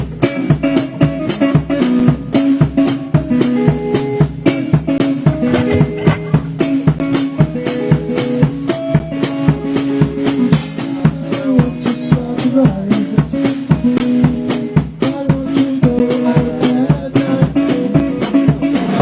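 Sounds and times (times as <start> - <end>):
drum kit beat: 0.0 - 19.0
guitar and bass: 0.0 - 19.0.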